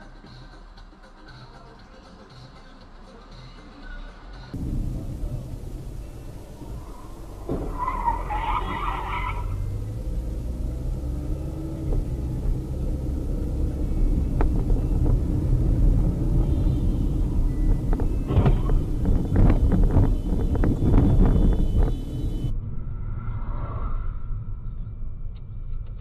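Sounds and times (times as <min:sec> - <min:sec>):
car engine and road rumble: 0:00.3 - 0:26.0.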